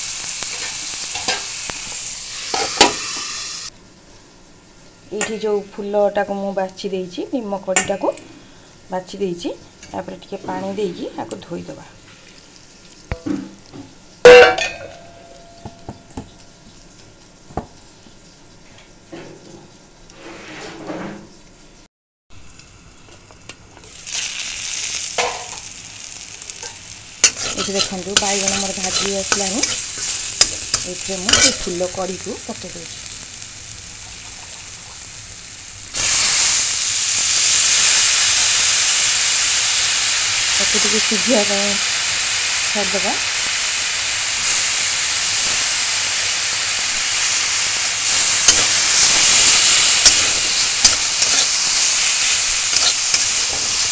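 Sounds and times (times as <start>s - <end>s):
hot oil sizzling: 0.0s - 20.3s, 21.5s - 53.9s.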